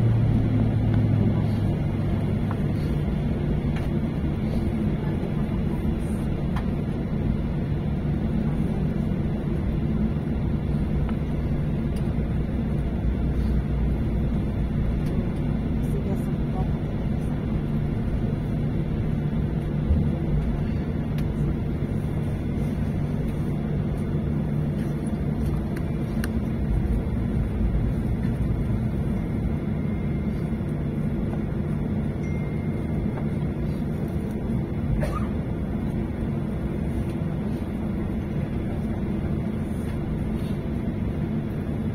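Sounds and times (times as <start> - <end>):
low engine rumble in vehicle cabin: 0.0 - 41.9.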